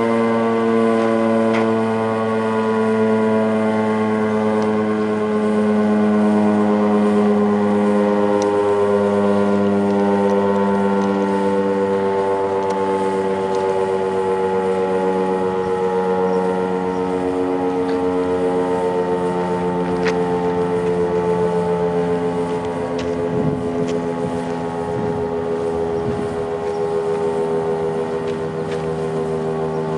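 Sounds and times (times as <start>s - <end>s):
two-tone warning siren: 0.0s - 29.9s.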